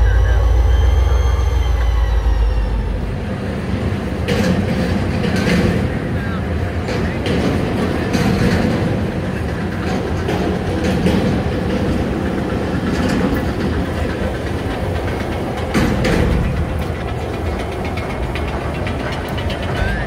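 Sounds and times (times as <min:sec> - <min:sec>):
train wheels rumbling on track: 0:00.0 - 0:20.0
clickety-clack clatter: 0:03.7 - 0:20.0.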